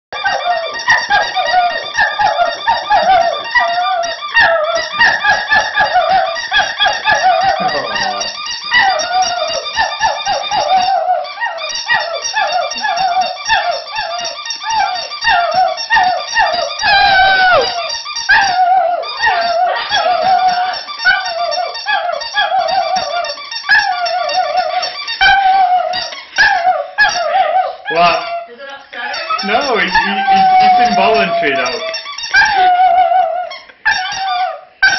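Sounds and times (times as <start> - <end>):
squeaky dog toy squeaking: 0.1 - 34.9.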